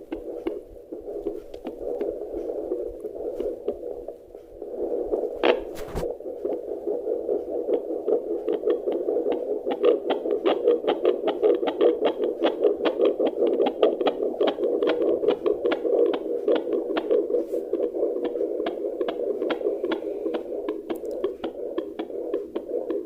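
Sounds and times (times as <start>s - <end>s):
fetal heartbeat whooshing: 0.0s - 23.0s.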